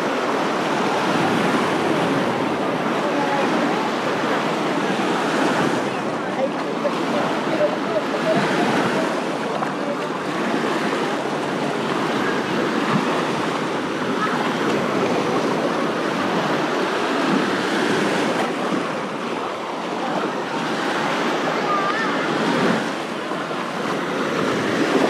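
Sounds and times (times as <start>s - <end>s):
small waves breaking on shore: 0.0s - 25.0s.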